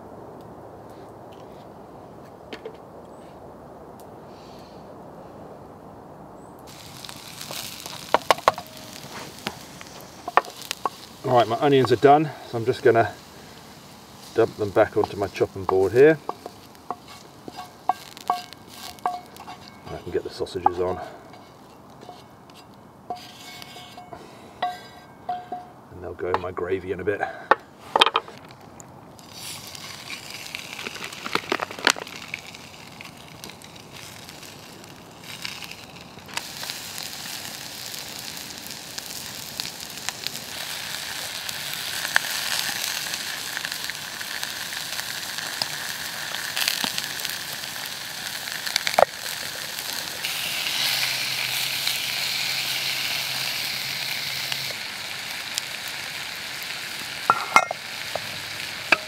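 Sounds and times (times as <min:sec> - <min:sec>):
burning wood crackling: 0:00.0 - 0:59.0
sausages sizzling in a pan: 0:06.7 - 0:25.6, 0:29.2 - 0:59.0.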